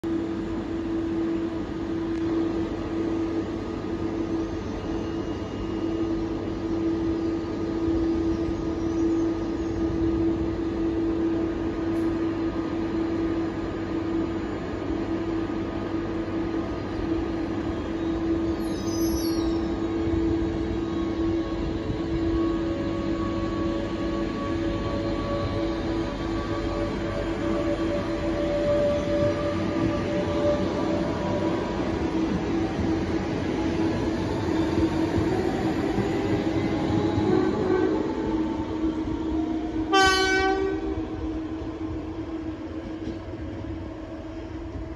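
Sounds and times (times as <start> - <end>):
electric train equipment humming: 0.0 - 44.9.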